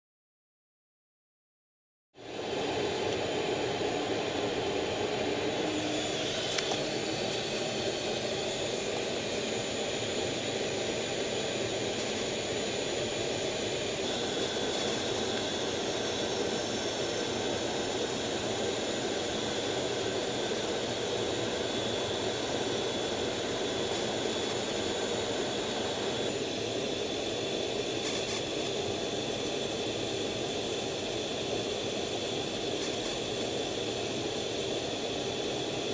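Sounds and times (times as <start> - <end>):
high steady whine: 2.2 - 35.9
jet engines running: 2.2 - 35.9.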